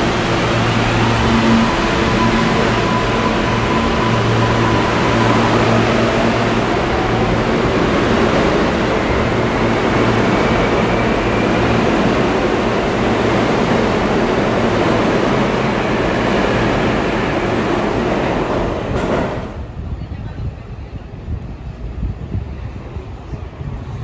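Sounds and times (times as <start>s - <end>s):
subway train rumbling past: 0.0s - 24.0s.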